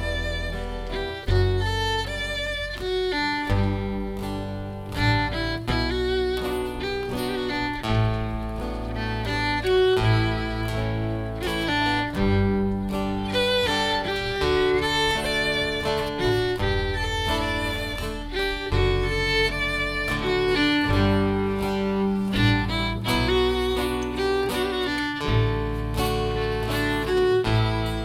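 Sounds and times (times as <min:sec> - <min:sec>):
fiddle playing quick melody: 0:00.0 - 0:28.0
guitar accompaniment: 0:00.0 - 0:28.0
steady bass line: 0:00.0 - 0:28.0.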